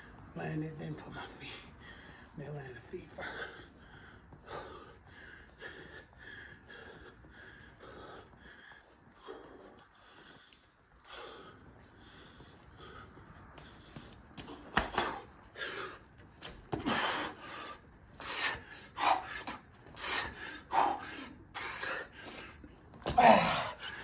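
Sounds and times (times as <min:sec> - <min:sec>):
man breathing hard and grunting: 0:03.0 - 0:24.0.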